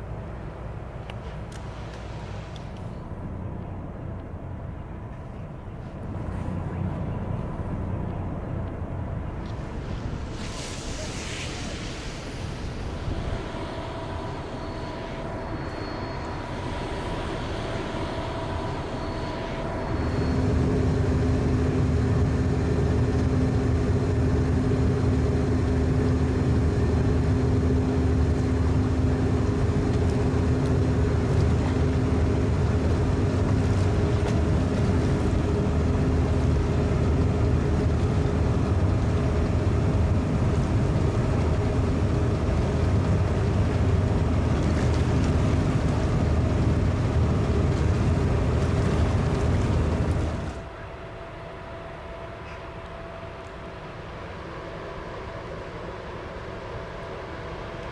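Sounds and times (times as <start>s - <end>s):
ship engine drone: 0.0s - 57.9s.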